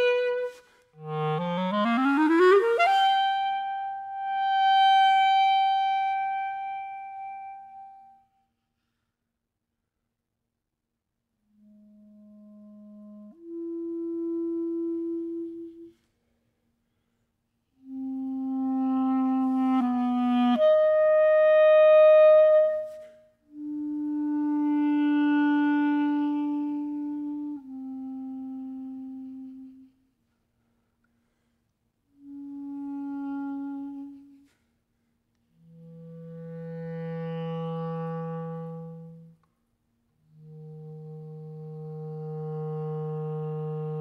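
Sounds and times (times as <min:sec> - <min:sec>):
clarinet playing long notes: 0:00.0 - 0:08.4, 0:11.5 - 0:16.1, 0:17.8 - 0:30.0, 0:32.1 - 0:34.6, 0:35.4 - 0:39.5, 0:40.1 - 0:44.0.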